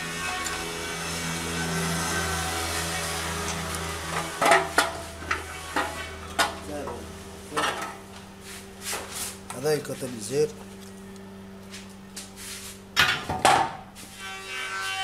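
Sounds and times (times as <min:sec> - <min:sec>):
steady low hum: 0:00.0 - 0:14.1.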